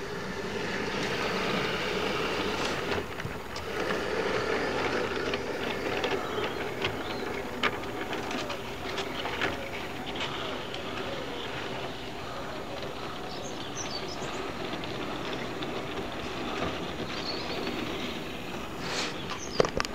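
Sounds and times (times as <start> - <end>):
model train wheels on rails: 0.0 - 19.9.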